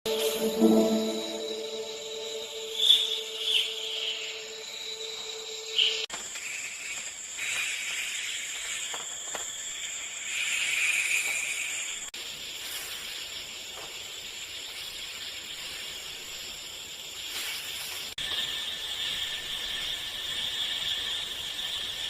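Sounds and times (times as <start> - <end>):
high-pitched outdoor hiss: 0.1 - 22.0.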